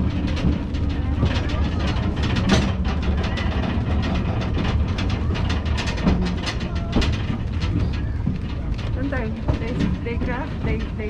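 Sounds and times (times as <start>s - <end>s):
train rumbling along track: 0.0s - 11.0s
wheel clicks and rattles: 0.0s - 11.0s.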